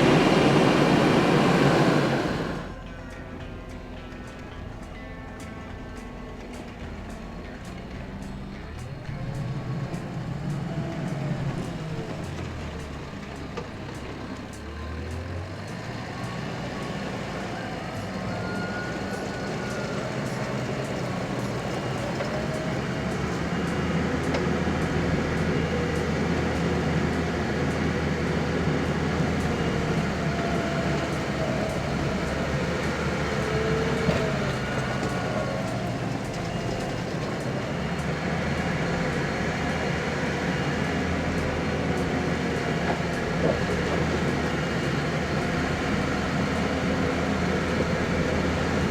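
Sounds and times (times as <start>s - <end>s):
skid steer engine running: 0.0s - 48.9s
whining tones: 0.0s - 48.9s.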